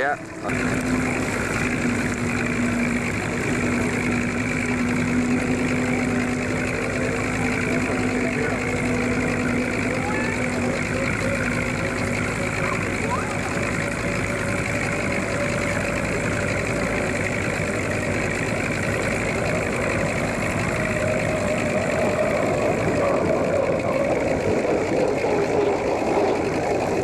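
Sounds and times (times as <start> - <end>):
race boat engines droning: 0.0 - 27.0.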